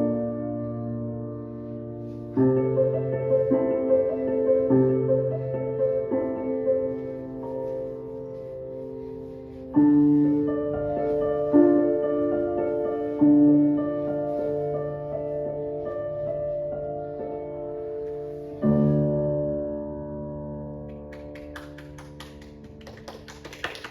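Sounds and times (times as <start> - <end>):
piano playing slow chords: 0.0 - 22.8.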